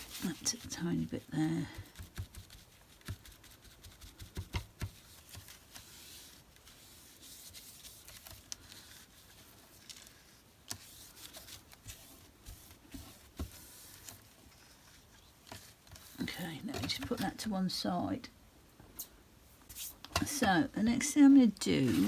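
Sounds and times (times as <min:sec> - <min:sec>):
paper and card rustling: 0:00.0 - 0:17.5, 0:21.7 - 0:22.0.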